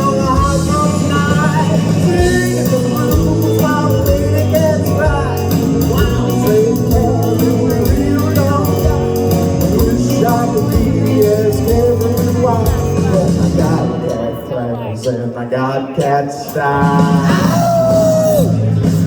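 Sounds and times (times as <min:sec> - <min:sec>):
instrumental rock and roll band: 0:00.0 - 0:19.0.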